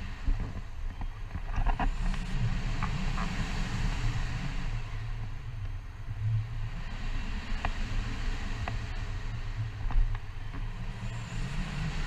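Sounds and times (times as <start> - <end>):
wind rumbling over microphone: 0.0 - 12.0.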